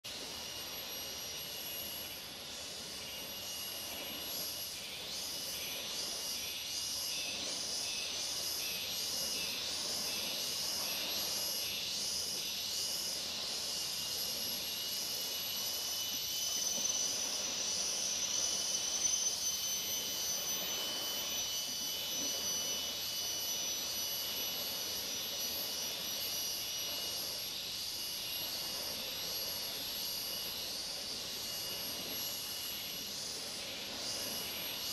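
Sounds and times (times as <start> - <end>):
insects trilling: 0.1 - 34.9
pulsing insect buzz: 0.2 - 34.9.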